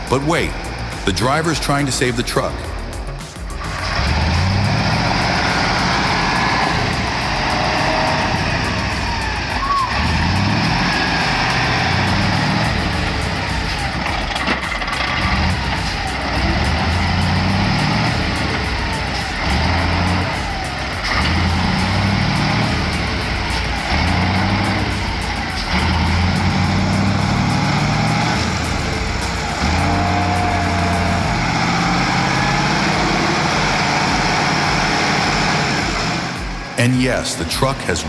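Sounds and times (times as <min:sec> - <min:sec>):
truck engine straining: 0:00.0 - 0:38.0.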